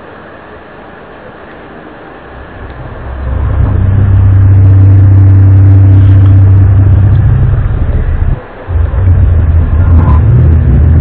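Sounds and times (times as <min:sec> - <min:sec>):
loud low droning hum: 0:00.0 - 0:11.0.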